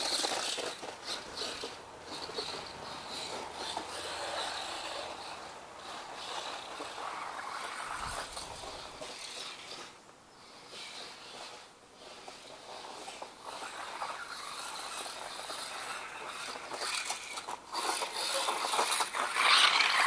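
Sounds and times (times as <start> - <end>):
rc truck motor in snow: 0.0 - 20.0.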